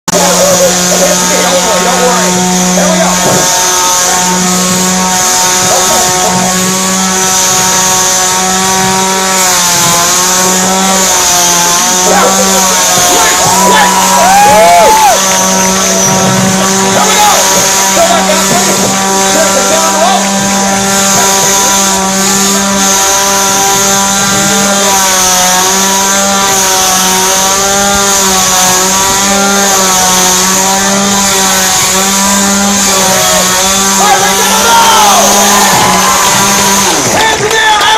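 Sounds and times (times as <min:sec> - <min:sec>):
chainsaw engine running: 0:00.0 - 0:37.9.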